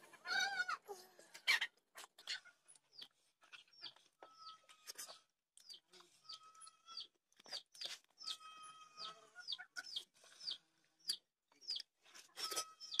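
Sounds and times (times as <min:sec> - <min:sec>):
chickens clucking and calling: 0:00.0 - 0:13.0.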